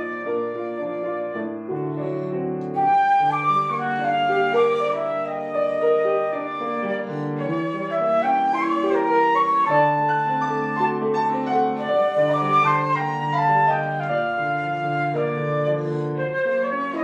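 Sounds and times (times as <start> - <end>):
classical woodwind melody: 0.0 - 17.0.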